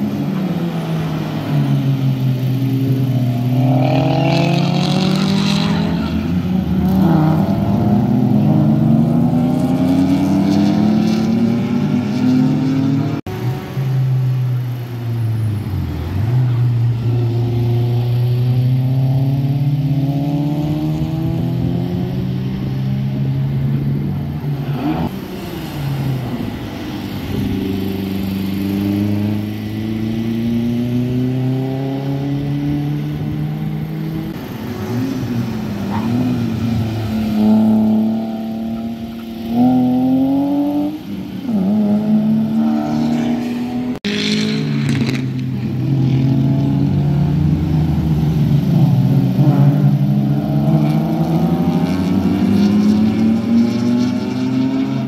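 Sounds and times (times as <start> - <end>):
race car engines revving past: 0.0 - 55.0.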